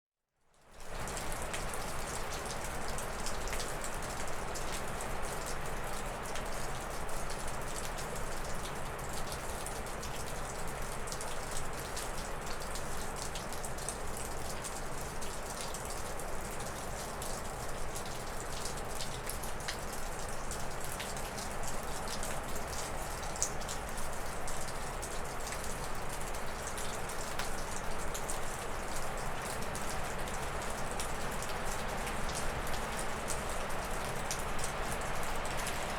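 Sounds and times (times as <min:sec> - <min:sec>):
meltwater dripping off roof: 0:00.5 - 0:35.9.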